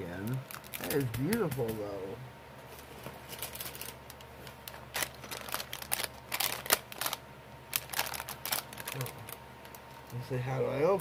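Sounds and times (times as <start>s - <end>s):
plastic packaging crinkling: 0.2s - 1.8s, 2.8s - 10.2s.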